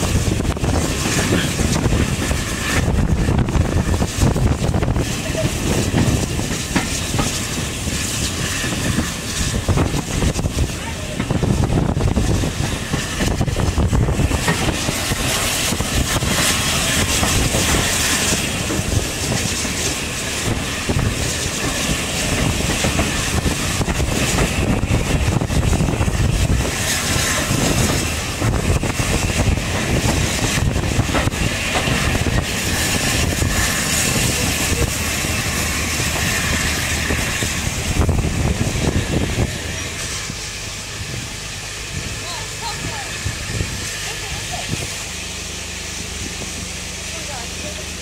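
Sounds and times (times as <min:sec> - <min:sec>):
wind on microphone: 0:00.0 - 0:42.2, 0:42.8 - 0:44.0
train wheels rumbling on rail: 0:00.0 - 0:48.0.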